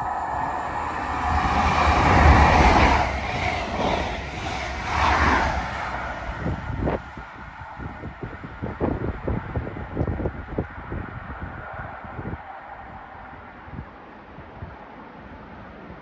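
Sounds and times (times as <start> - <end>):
passenger train passing at speed: 0.0 - 16.0.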